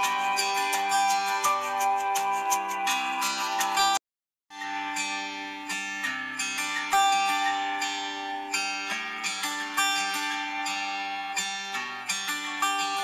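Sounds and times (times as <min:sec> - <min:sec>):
plucked instrumental music: 0:00.0 - 0:13.0.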